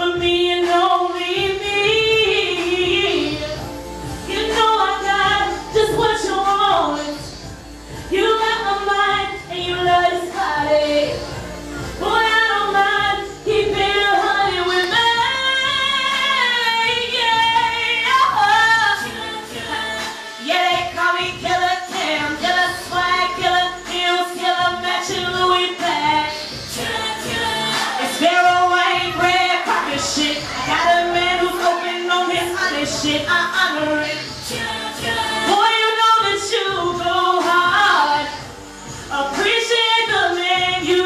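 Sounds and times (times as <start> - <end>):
backing music: 0.0 - 41.0
woman singing into microphone: 0.0 - 41.0.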